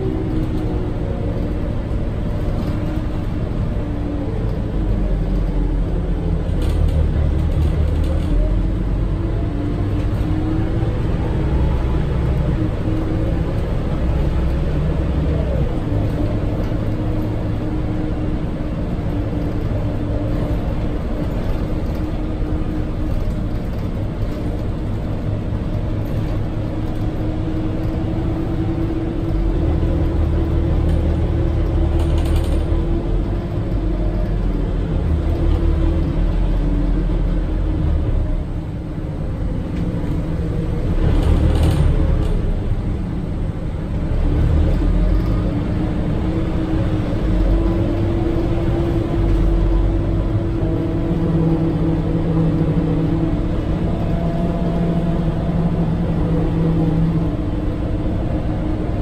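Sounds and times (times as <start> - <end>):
bus engine whine and rumble: 0.0 - 59.0.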